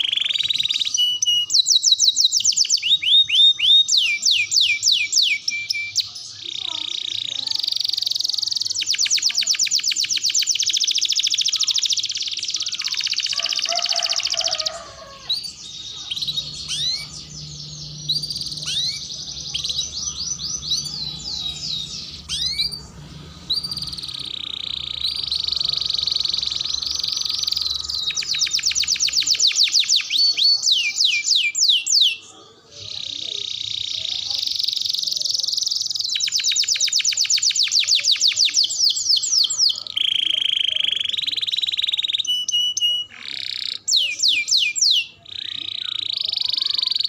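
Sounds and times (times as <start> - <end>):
canary singing trills: 0.0 - 47.0.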